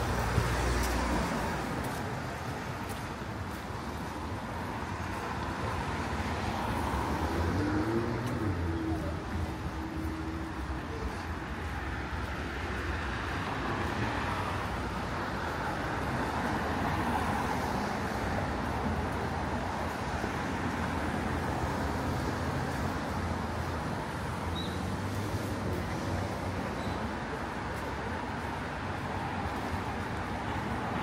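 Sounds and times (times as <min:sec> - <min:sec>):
city traffic noise: 0:00.0 - 0:31.0.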